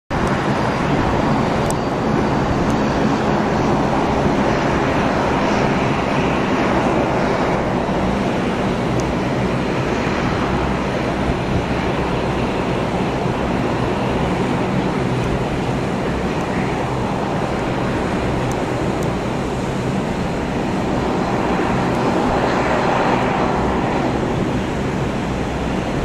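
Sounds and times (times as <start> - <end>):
distant jet roar: 0.1 - 26.0.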